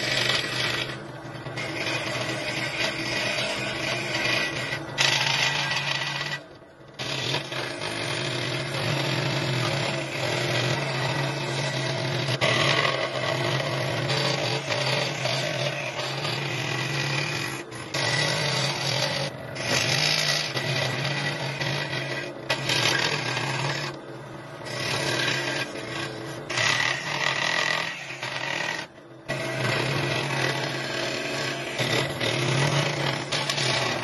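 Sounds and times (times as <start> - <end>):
power tool cutting wood: 0.0 - 34.0.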